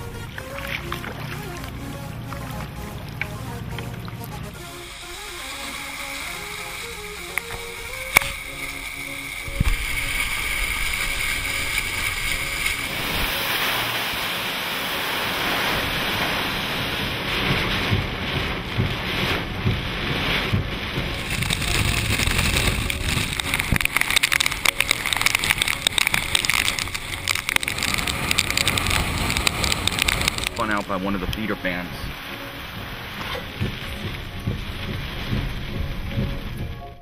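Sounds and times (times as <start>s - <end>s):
hurricane wind gusting: 0.0s - 36.9s
heavy rain: 0.0s - 37.0s.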